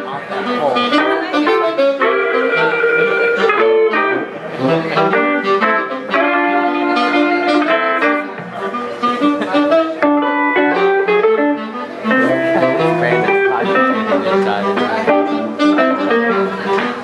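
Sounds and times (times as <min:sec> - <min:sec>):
plucked guitar: 0:00.0 - 0:17.0
saxophone melody: 0:00.0 - 0:17.0.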